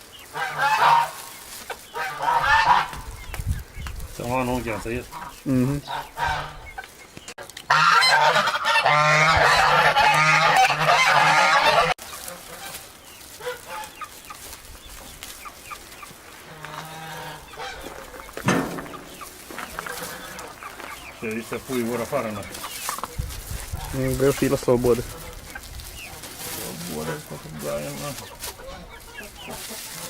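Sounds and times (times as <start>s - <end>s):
poultry calling: 0.0s - 30.0s.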